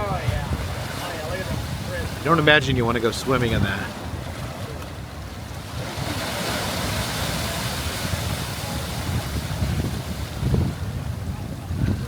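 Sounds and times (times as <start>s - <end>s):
ocean surf rushing over rocks: 0.0s - 12.0s
wind buffeting microphone: 0.0s - 12.0s.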